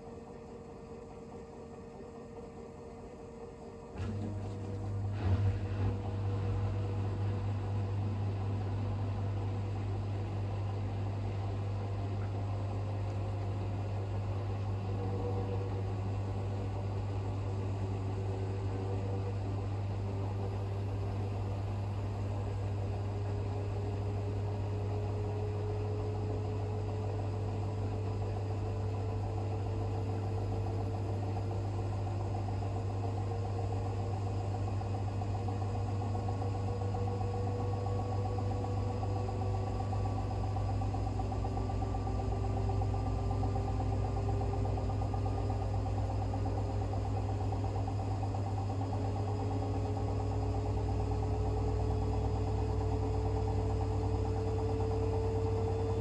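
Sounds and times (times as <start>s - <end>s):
washing machine humming: 0.0s - 56.0s.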